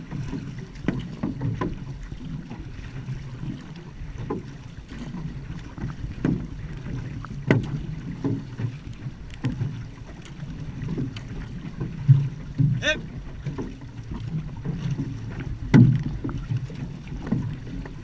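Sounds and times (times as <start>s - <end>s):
paddles dipping in water: 0.0s - 18.0s
water rushing along hull: 0.0s - 18.0s.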